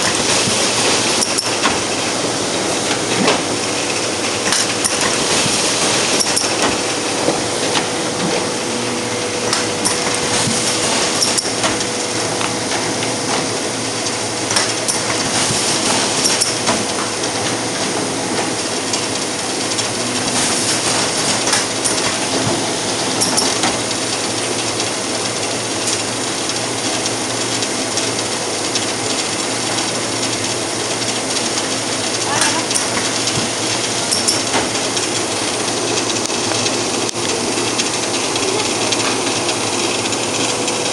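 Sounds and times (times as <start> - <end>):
feed mechanism clicks: 0.0 - 8.6, 9.3 - 40.9
laminating machine hum: 0.0 - 40.9.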